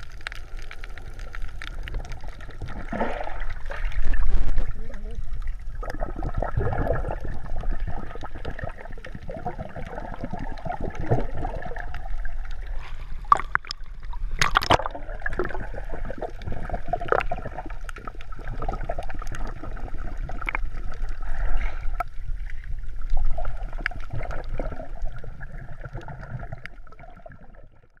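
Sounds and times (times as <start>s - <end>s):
clicks and crackles: 0.0s - 27.5s
muffled underwater water sloshing: 0.0s - 28.0s.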